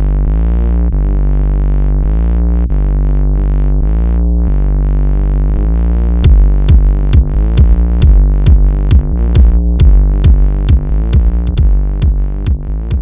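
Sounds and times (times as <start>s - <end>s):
synthesizer chords with sweeping filter: 0.0s - 13.0s.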